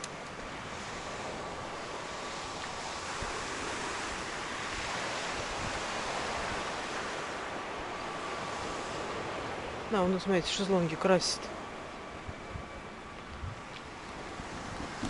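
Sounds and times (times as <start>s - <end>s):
wind on microphone: 0.0s - 10.6s, 12.1s - 15.0s
surf washing on beach: 0.0s - 15.0s.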